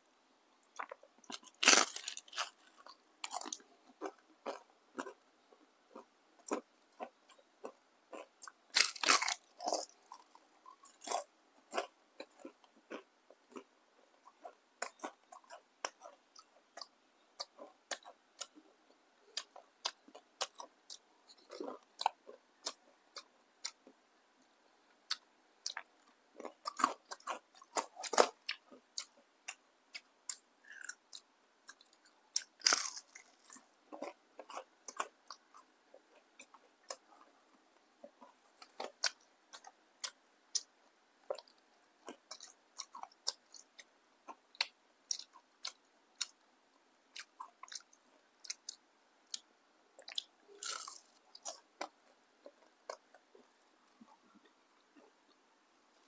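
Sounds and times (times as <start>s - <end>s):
crunchy chewing: 0.8s - 24.0s, 25.1s - 46.4s, 47.1s - 55.2s.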